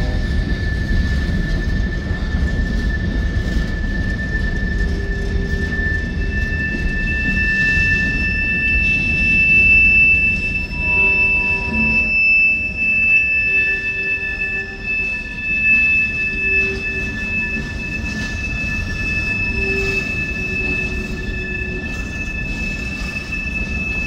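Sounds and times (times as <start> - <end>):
high steady squeal: 0.0 - 24.0
higher louder squeal: 0.0 - 24.0
train wheels rumbling on rails: 0.0 - 24.0.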